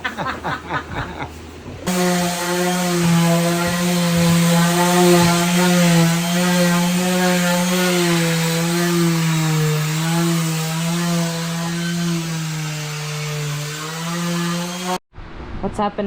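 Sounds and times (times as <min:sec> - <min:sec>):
electric sander on wood: 0:01.9 - 0:15.0.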